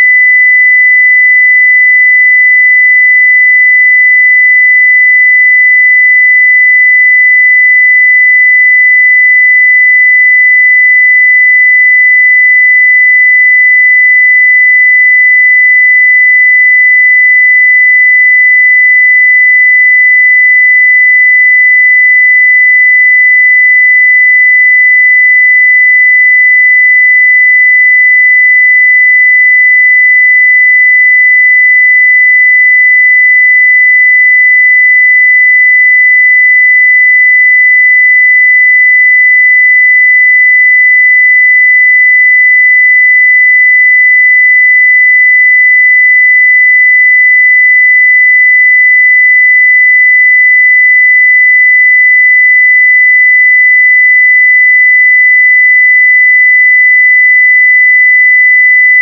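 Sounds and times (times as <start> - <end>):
sine wave test tone: 0.0 - 59.0.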